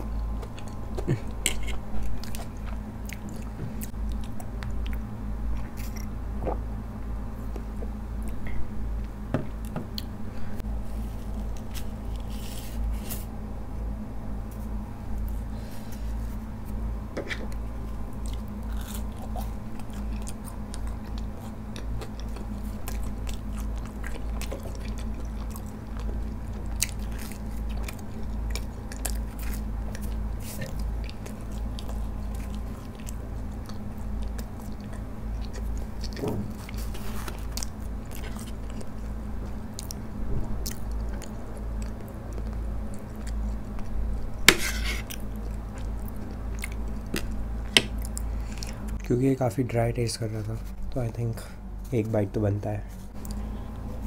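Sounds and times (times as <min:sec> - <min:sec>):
chewing crunchy crust: 0:00.0 - 0:49.2
low hum: 0:00.0 - 0:54.0.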